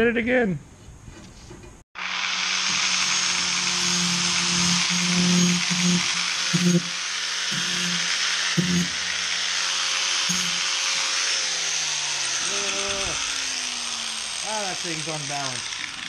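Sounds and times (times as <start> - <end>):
angle grinder grinding steel: 2.0 - 16.0.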